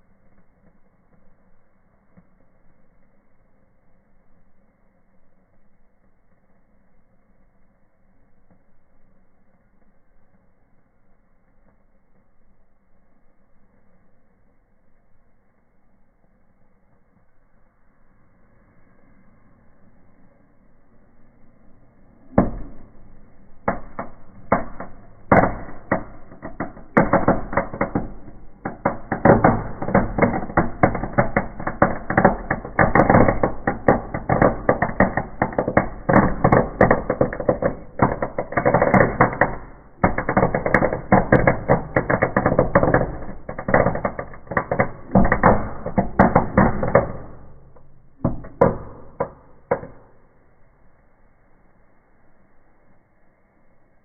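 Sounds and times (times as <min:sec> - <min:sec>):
fireworks cracking and popping: 0:00.0 - 0:50.5.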